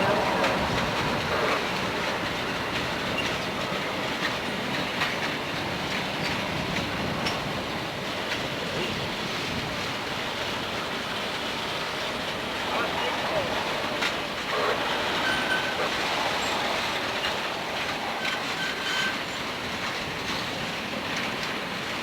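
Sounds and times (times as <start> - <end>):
freight train rumbling and rattling: 0.0 - 22.0
wheels clicking over rails: 0.0 - 22.0.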